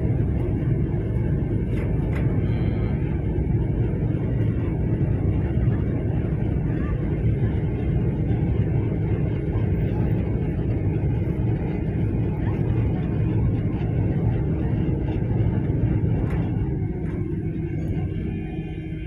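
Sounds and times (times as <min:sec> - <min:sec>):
ferry engines rumbling: 0:00.0 - 0:19.0.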